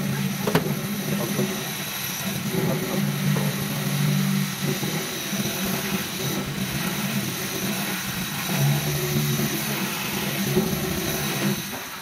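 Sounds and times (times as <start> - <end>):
water rushing into a sink: 0.0 - 12.0.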